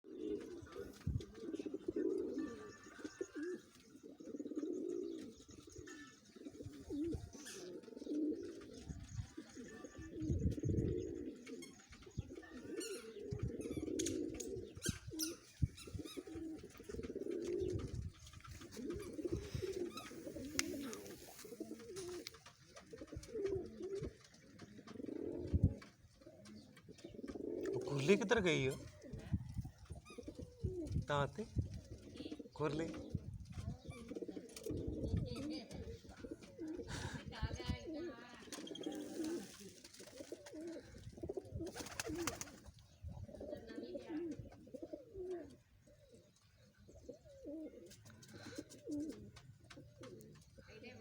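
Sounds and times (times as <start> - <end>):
pigeons cooing: 0.0 - 51.0.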